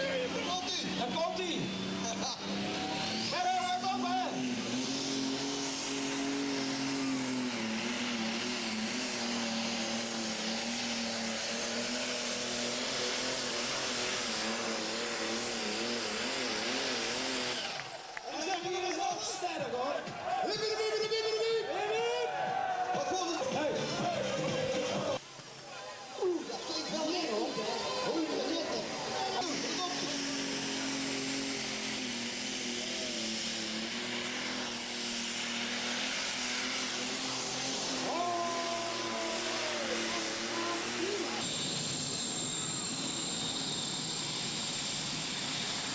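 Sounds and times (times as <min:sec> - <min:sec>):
engine revving under load: 0:00.0 - 0:19.0, 0:26.5 - 0:45.9.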